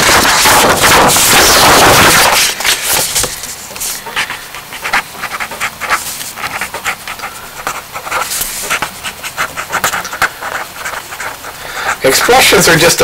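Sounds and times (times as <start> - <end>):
pen scratching on paper: 0.0 - 12.8.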